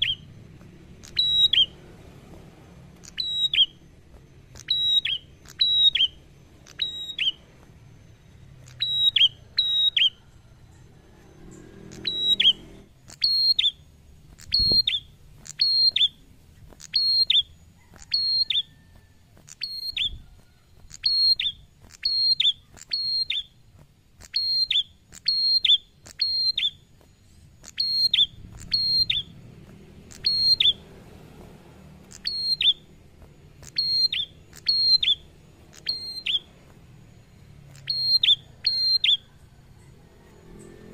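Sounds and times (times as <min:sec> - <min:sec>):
bird calling high sharp notes: 0:00.0 - 0:02.0, 0:02.7 - 0:39.9.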